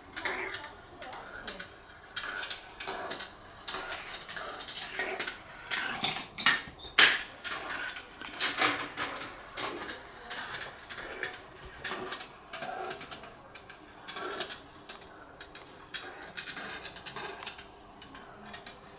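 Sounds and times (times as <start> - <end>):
marbles rolling on plastic rails: 0.0 - 18.9
marbles clicking and clacking: 0.2 - 18.8.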